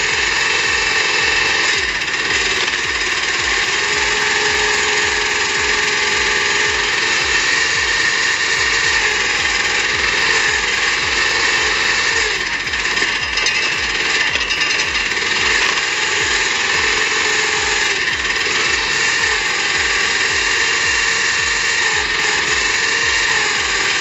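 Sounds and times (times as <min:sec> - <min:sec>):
heavy machinery pulsing: 0:00.0 - 0:24.0.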